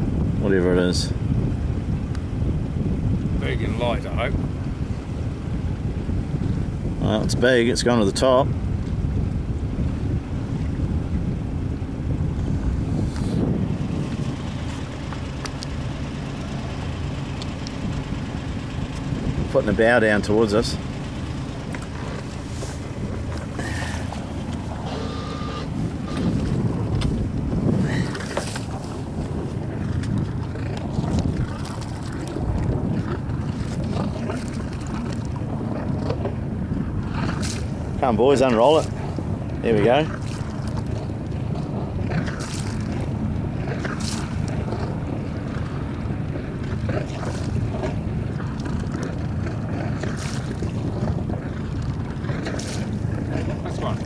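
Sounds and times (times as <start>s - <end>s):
water washing past hull: 0.0s - 54.0s
wind rumbling on microphone: 0.0s - 54.0s.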